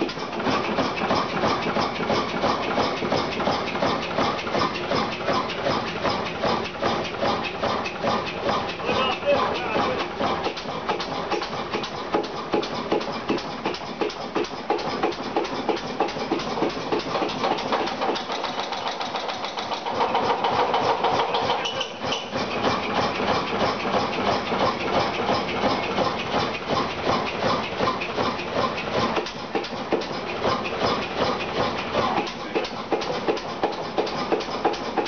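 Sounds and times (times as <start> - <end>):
stationary engine running: 0.0 - 35.0.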